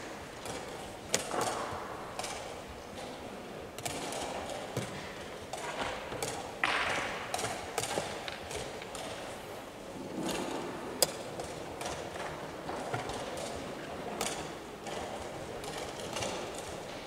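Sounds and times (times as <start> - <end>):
room noise: 0.0 - 17.0.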